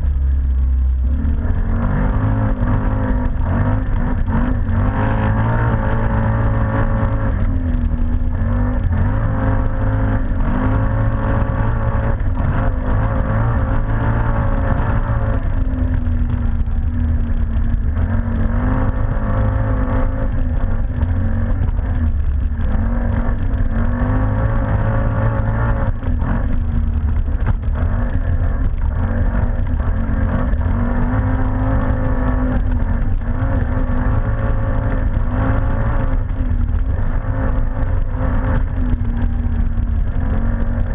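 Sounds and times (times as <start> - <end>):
atv engine revving: 0.0 - 40.9
low rumble: 0.0 - 40.9.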